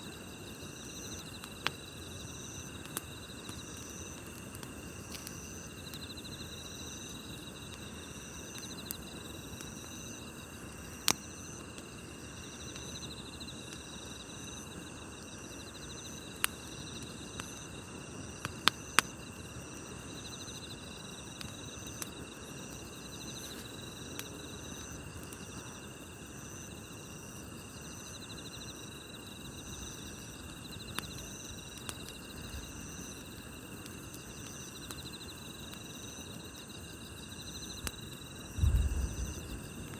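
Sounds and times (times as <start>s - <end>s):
campfire hissing: 0.0s - 39.9s
crickets chirping: 0.0s - 39.9s
fire crackling pops: 0.0s - 39.9s.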